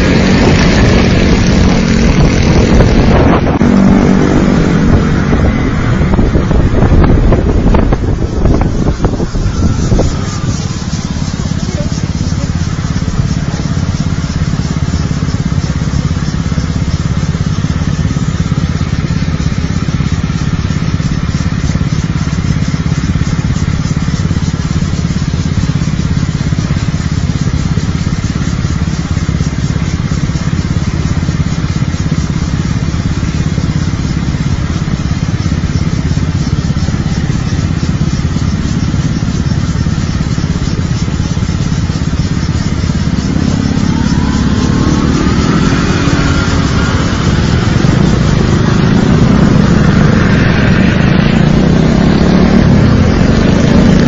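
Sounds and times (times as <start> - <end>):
scooter engines running: 0.0 - 54.0.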